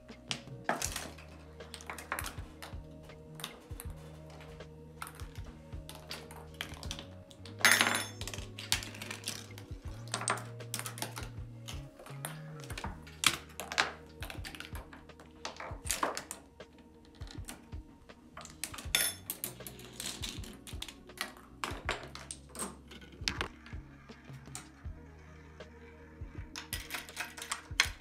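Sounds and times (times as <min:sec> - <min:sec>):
balls rolling and dropping: 0:00.0 - 0:28.0
small parts knocking and tipping: 0:00.3 - 0:17.8, 0:18.4 - 0:24.8, 0:26.5 - 0:28.0.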